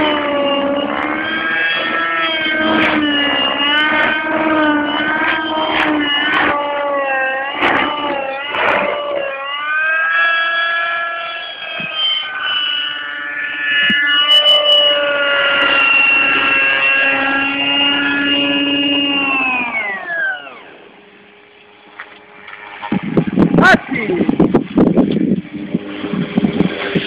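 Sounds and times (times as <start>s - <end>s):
model helicopter rotor whine: 0.0s - 27.0s.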